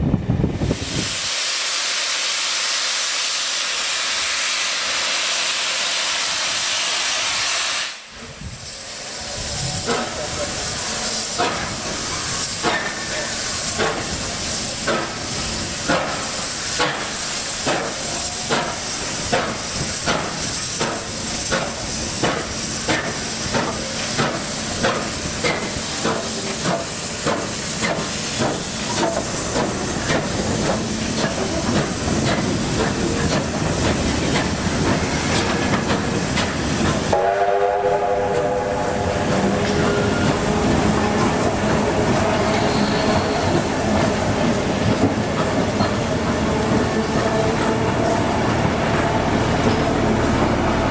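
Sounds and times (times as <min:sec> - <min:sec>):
heavy hiss of steam: 0:00.5 - 0:50.9
steam locomotive exhaust chuffs: 0:00.5 - 0:50.9.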